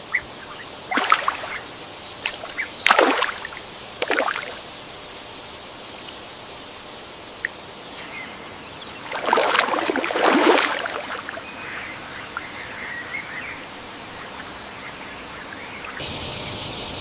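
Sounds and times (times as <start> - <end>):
steady rush like flowing water: 0.0 - 16.2.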